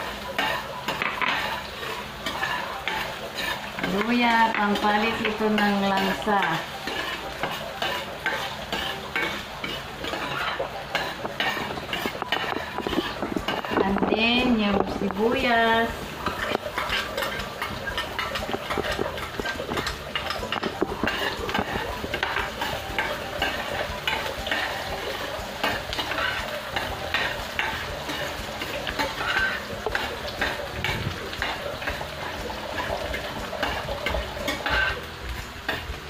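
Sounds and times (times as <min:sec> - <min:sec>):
onion sizzling in oil: 0:00.0 - 0:36.0
spatula scraping pan: 0:00.0 - 0:36.0.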